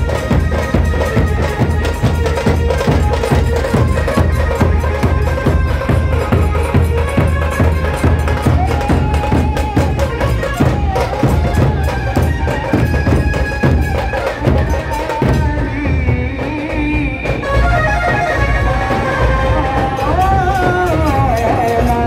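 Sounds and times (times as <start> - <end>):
long held melody line: 0.0 - 22.0
loud dense drumming: 0.0 - 22.0.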